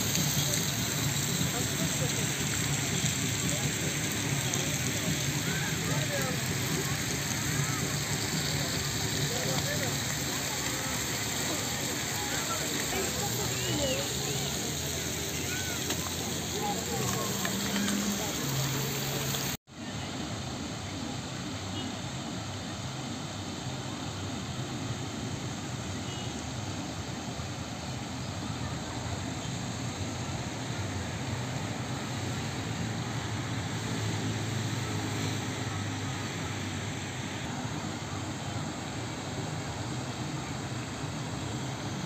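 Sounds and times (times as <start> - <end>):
fountain jets splashing into pool: 0.0 - 42.0.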